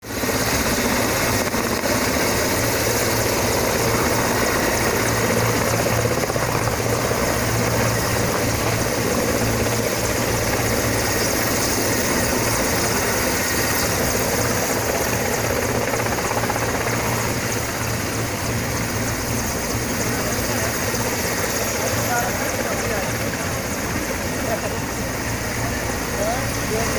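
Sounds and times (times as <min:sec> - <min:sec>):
helicopter rotor and turbine: 0:00.0 - 0:26.9.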